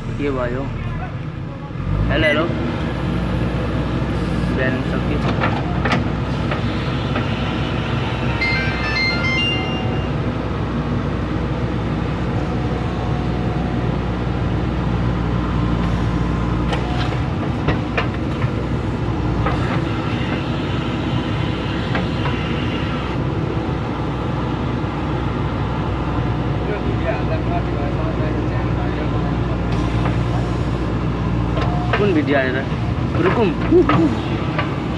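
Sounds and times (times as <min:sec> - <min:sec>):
diesel engine rumbling: 0:00.0 - 0:34.9.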